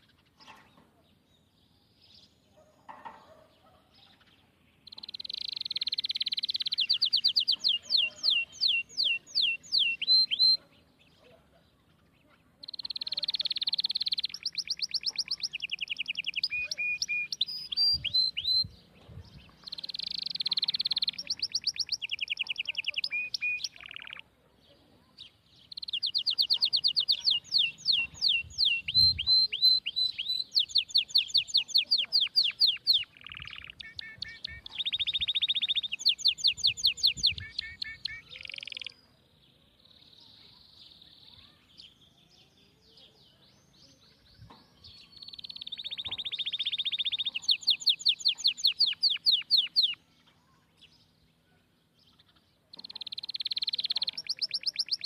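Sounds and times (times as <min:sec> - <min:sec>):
songbird trilling and chirping: 0:00.0 - 0:55.0.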